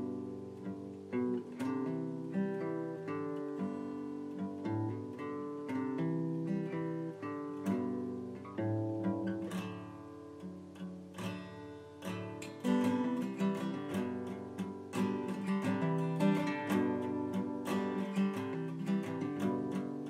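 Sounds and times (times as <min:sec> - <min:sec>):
acoustic guitar plucked melody: 0:00.0 - 0:20.0.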